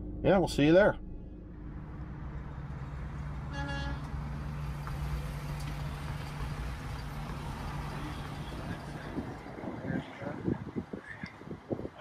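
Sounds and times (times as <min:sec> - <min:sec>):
car engine hum inside cabin: 0:00.0 - 0:10.0.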